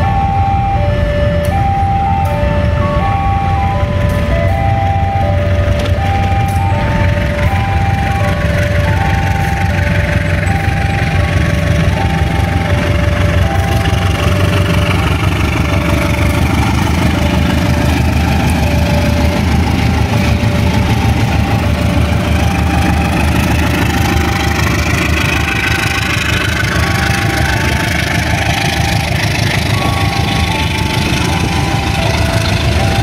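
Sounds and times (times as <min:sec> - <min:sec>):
locomotive engine rumble: 0:00.0 - 0:33.0
train rolling past: 0:00.0 - 0:33.0.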